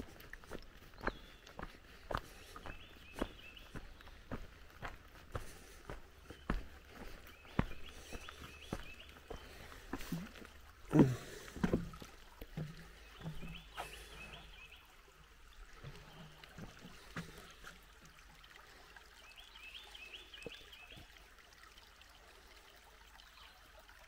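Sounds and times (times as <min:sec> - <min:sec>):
small bird song: 0:00.0 - 0:11.8, 0:12.4 - 0:17.8, 0:18.7 - 0:21.3, 0:23.1 - 0:23.9.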